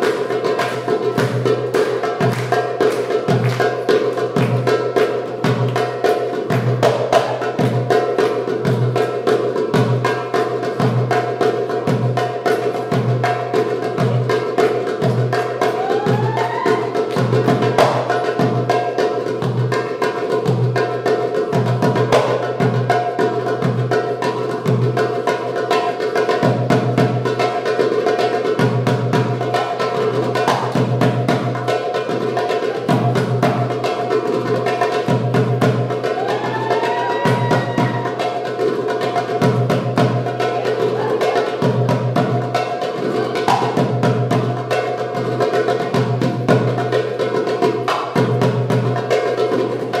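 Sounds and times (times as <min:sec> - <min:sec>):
hand drum playing fast rhythm: 0:00.0 - 0:50.0.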